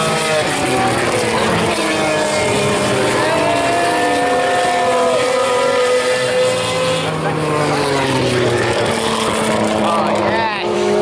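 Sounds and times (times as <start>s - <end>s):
race car engines passing: 0.0s - 11.0s.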